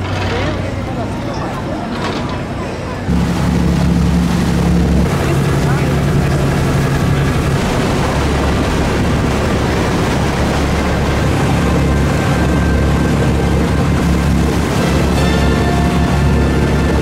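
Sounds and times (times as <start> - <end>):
boat engine running: 0.0 - 17.0
water rushing past hull: 0.0 - 17.0
wind on microphone: 3.1 - 17.0.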